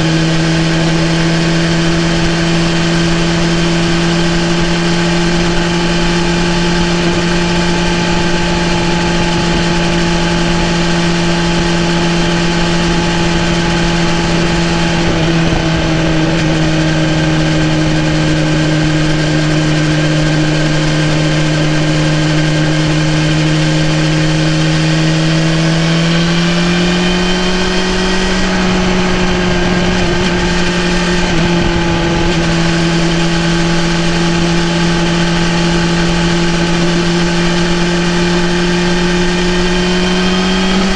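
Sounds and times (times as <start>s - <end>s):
constant rush of noise: 0.0s - 40.9s
motorcycle engine cruising: 0.0s - 40.9s.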